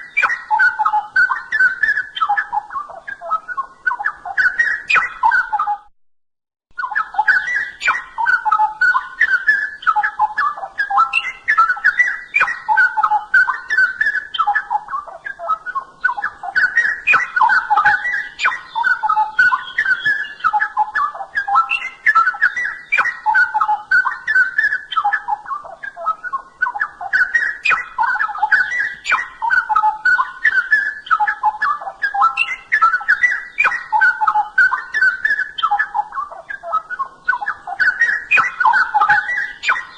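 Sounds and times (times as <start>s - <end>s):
bird singing whistled warbled song: 0.0s - 5.9s, 6.7s - 39.9s.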